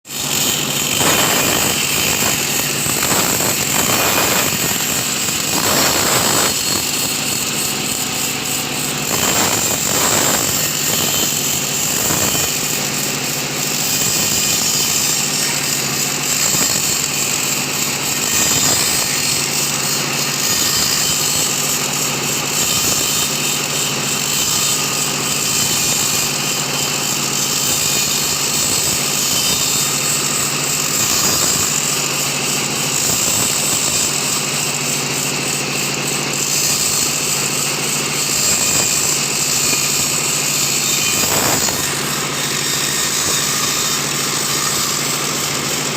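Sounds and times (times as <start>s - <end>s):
sawmill machinery humming: 0.1s - 45.9s.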